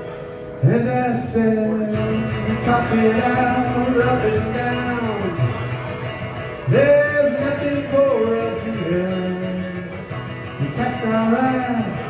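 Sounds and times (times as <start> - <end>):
guitar: 0.0 - 12.0.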